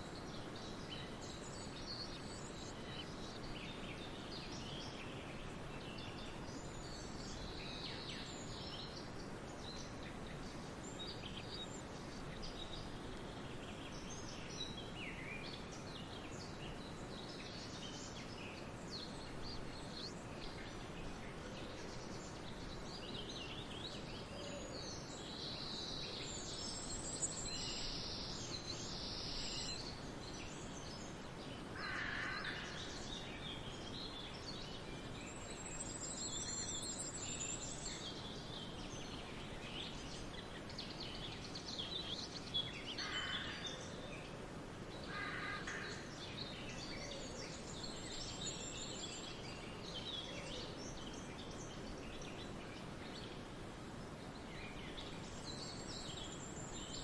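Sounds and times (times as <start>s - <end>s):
steady background hiss: 0.0s - 57.0s
birds chirping and trilling: 0.2s - 53.5s.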